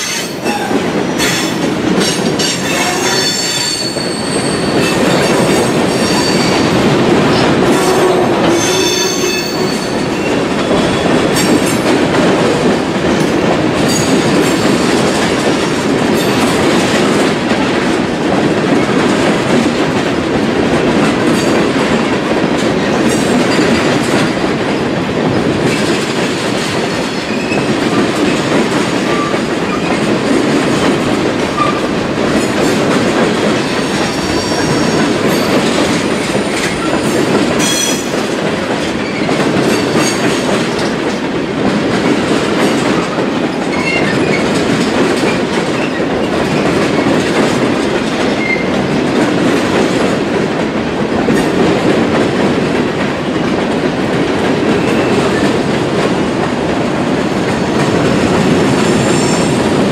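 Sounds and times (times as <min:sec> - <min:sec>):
train wheels rumbling over rail joints: 0:00.0 - 0:59.9.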